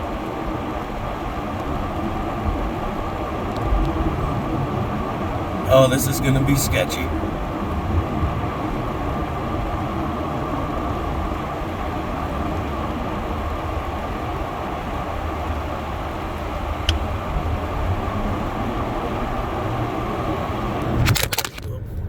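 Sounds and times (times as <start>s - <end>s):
defroster fan blowing: 0.0s - 21.1s
road and engine noise in car: 0.0s - 22.0s.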